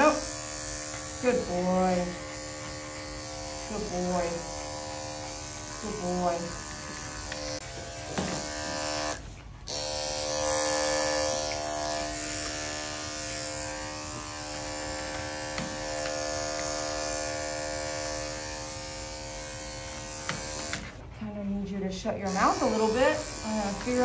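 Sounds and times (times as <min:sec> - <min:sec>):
electric clippers buzzing: 0:00.0 - 0:21.0, 0:22.3 - 0:24.0.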